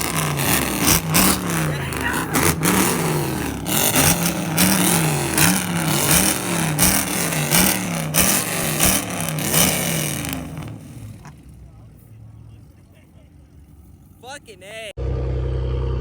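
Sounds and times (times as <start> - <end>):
car engine revving: 0.0 - 16.0
exhaust cracks: 0.0 - 16.0.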